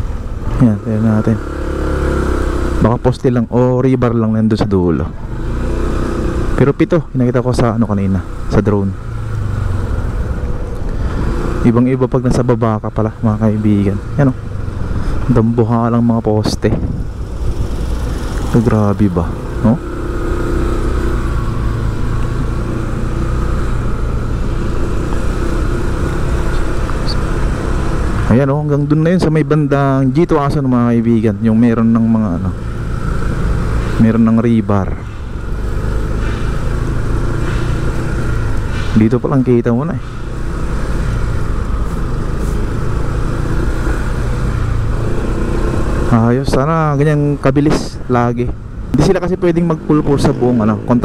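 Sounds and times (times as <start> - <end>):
traffic rumble: 0.0 - 51.0
vehicle engine humming: 0.0 - 51.0.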